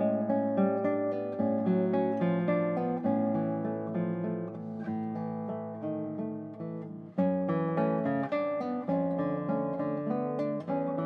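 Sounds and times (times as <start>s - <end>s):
fingerpicked classical guitar: 0.0s - 11.0s.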